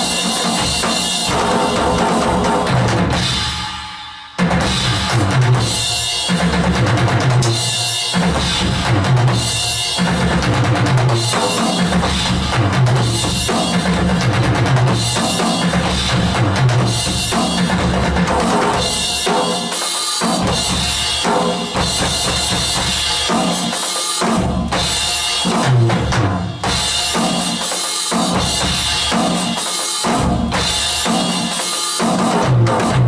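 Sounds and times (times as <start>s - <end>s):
electronic drum kit beat: 0.0s - 33.0s.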